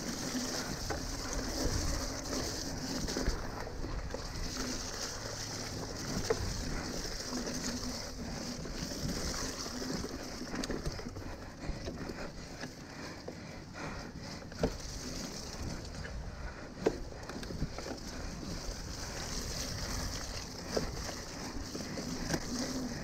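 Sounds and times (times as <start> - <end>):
bike rattling: 0.0 - 23.0
bike tyres rolling through mud: 0.0 - 23.0.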